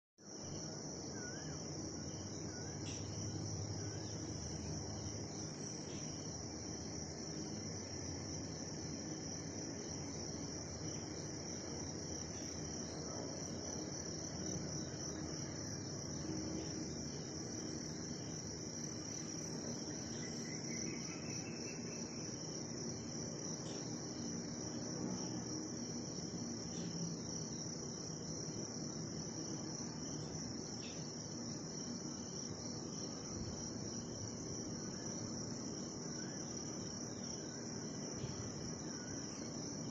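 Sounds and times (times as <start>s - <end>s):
crickets trilling: 0.2s - 39.9s.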